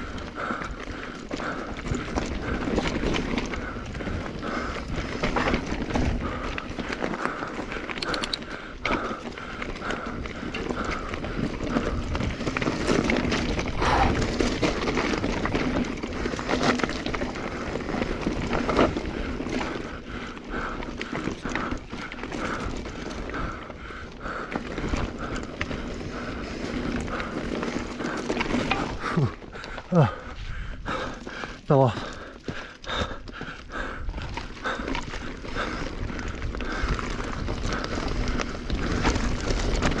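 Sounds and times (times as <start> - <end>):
bike tyres crunching on gravel: 0.0 - 40.0.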